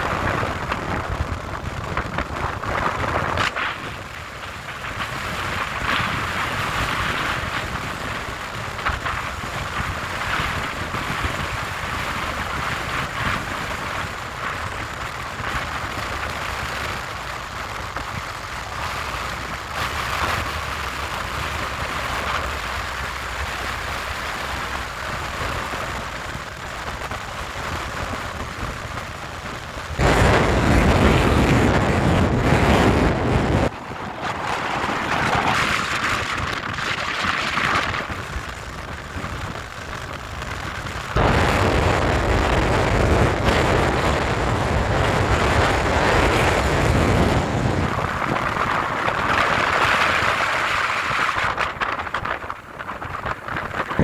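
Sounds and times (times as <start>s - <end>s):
wind rushing across microphone: 0.0s - 54.0s.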